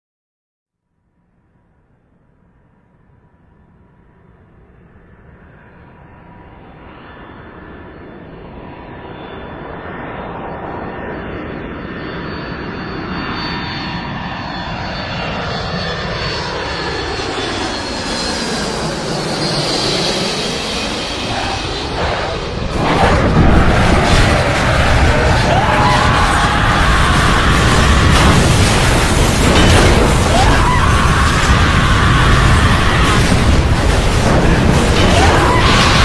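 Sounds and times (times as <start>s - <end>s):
aircraft engine whine: 1.0s - 36.0s.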